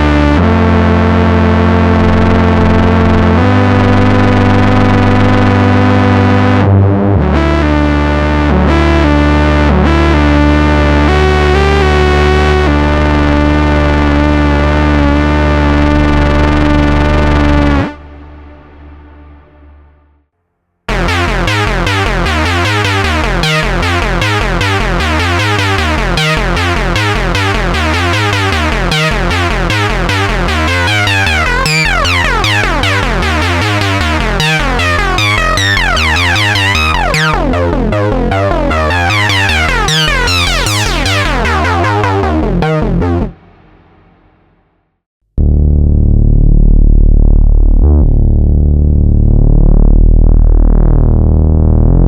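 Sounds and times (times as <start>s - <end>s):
gritty synthesizer lead: 0.0s - 19.8s, 20.9s - 44.4s.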